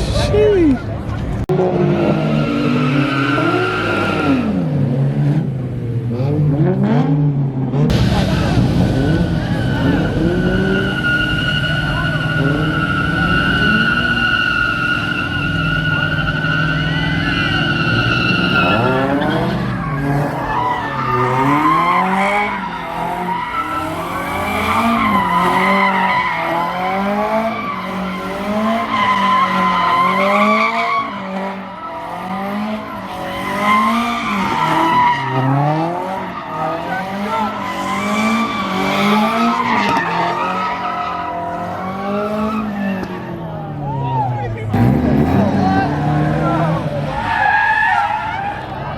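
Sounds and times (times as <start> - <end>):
car engine revving: 0.0 - 43.8, 44.5 - 48.9.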